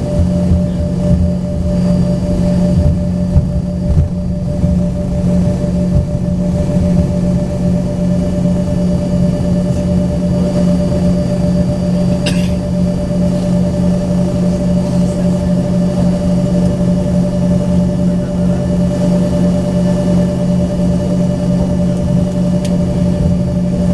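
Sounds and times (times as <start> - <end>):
jet engines idling hum and whine: 0.0 - 23.9.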